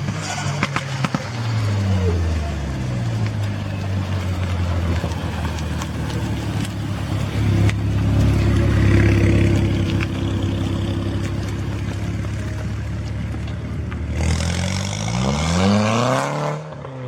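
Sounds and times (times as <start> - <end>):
car engine rumbling: 0.0 - 16.3.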